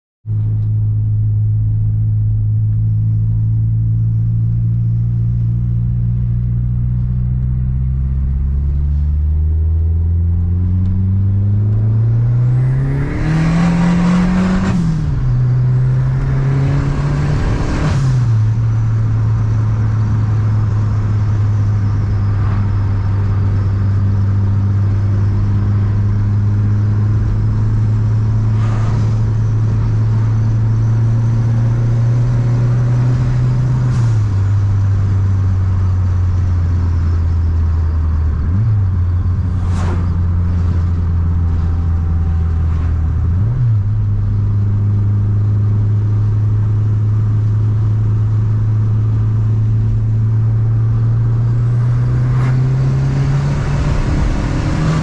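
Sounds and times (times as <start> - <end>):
car engine accelerating: 0.3 - 55.0.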